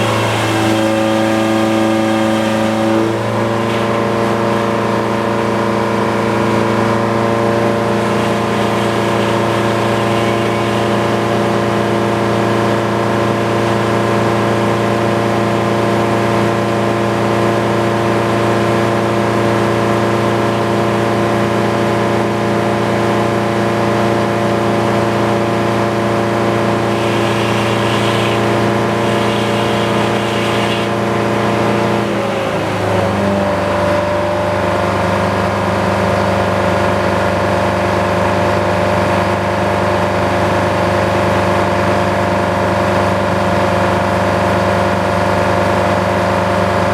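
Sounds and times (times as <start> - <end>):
sawmill engine sawing log: 0.0 - 46.9.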